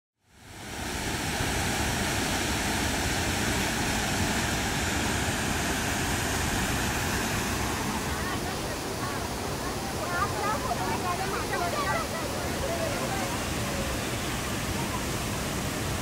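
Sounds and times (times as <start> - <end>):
waterfall rushing: 0.3 - 16.0.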